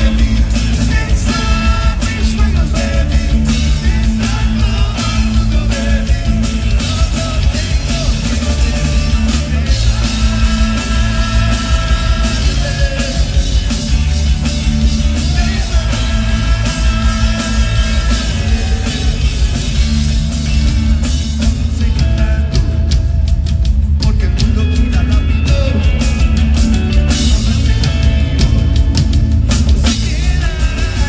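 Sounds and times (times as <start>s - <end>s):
driving drum kit: 0.0s - 31.0s
heavy bass: 0.0s - 31.0s
rock band playing live: 0.0s - 31.0s.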